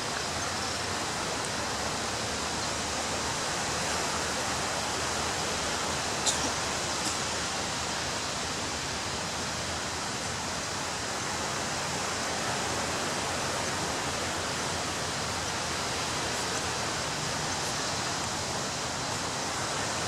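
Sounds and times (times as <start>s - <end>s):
ocean surf on beach: 0.0s - 20.0s.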